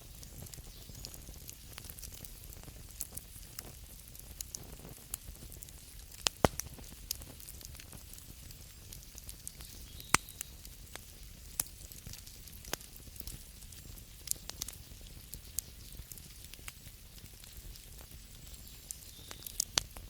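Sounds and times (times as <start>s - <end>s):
wood fire crackling: 0.0s - 20.0s
sharp pops of fire: 0.1s - 20.0s.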